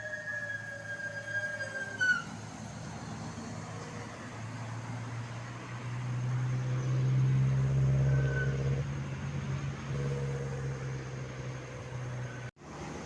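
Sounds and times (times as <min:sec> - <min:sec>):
bus diesel engine passing: 0:00.0 - 0:13.0.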